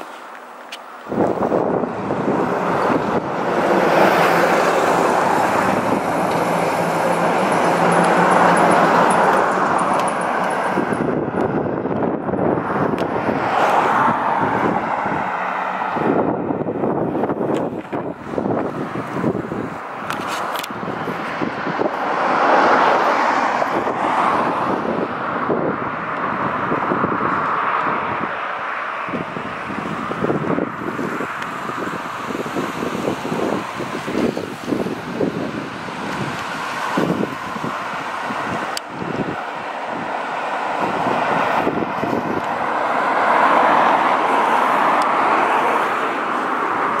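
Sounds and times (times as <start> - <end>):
vehicle passing: 0.0 - 47.0.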